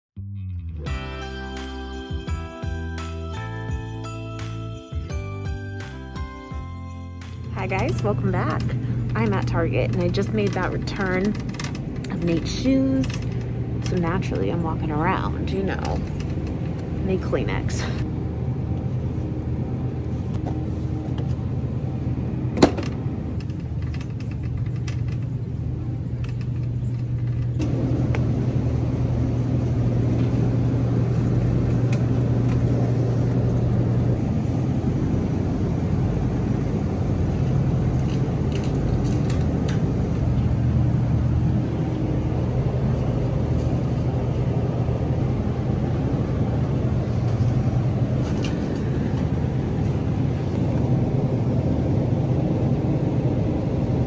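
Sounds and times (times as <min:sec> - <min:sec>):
ventilation and refrigerator hum: 0:00.9 - 0:54.0.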